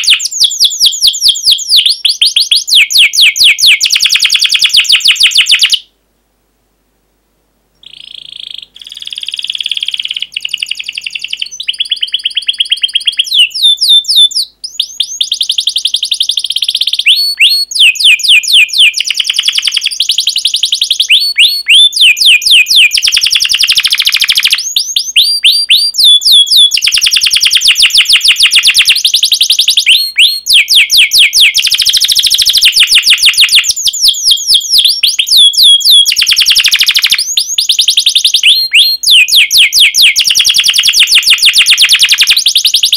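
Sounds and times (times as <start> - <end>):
canary singing trills: 0.0 - 5.9, 7.8 - 42.9.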